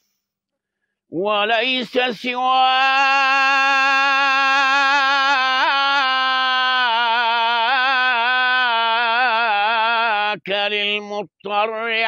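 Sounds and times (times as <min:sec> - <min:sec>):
man singing unaccompanied: 0:01.1 - 0:12.0.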